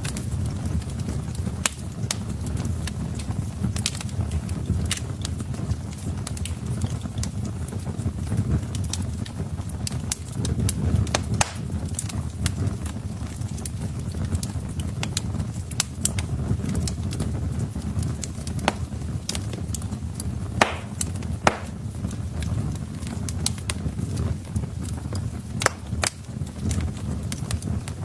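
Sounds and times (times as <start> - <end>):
fire flames rumbling: 0.0 - 28.0
logs crackling and popping: 0.0 - 28.0.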